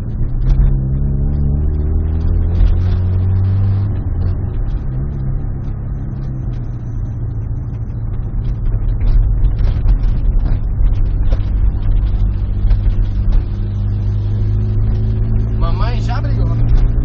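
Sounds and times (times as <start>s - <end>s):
car with loud exhaust driving: 0.0s - 17.0s
exhaust crackles: 0.0s - 17.0s.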